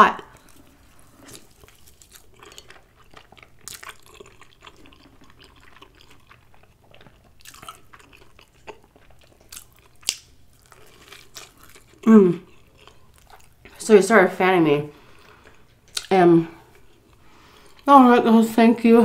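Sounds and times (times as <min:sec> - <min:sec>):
wet chewing sounds: 0:00.2 - 0:13.8, 0:14.9 - 0:17.9.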